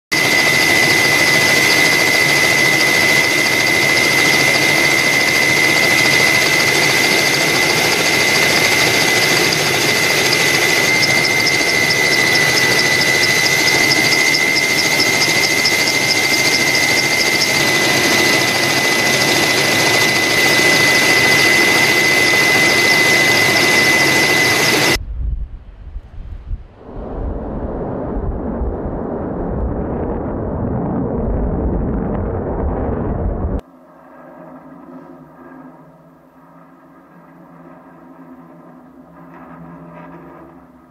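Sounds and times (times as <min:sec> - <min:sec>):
aircraft turbine engine whine: 0:00.1 - 0:40.9.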